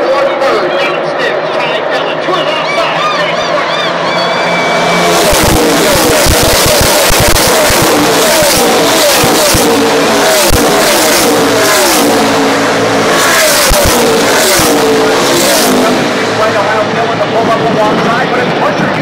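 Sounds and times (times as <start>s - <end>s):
race truck engines at full throttle: 0.0s - 19.0s.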